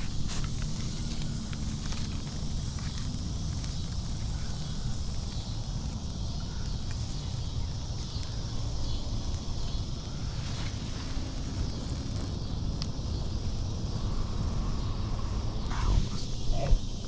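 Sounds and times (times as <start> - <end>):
small fire crackling: 0.0 - 17.0
wind rumbling on microphone: 0.0 - 17.0.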